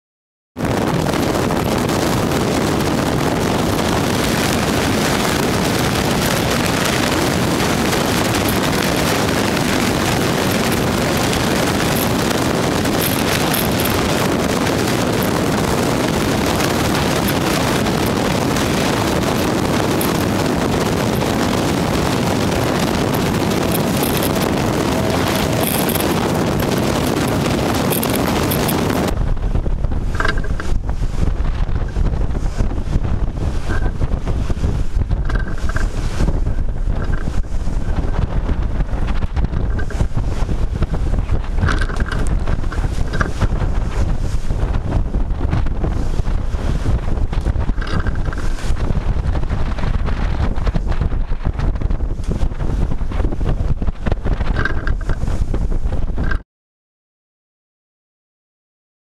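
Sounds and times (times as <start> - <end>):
wind blowing on microphone: 0.6 - 56.4.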